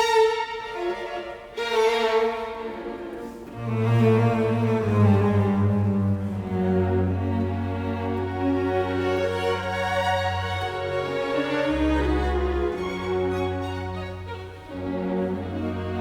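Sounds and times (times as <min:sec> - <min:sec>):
bowed strings sustained notes: 0:00.0 - 0:16.0.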